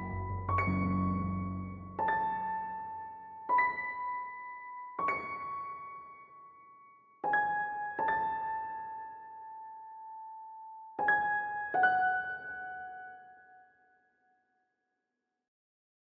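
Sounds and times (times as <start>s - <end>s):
slow solo piano: 0.0s - 13.8s.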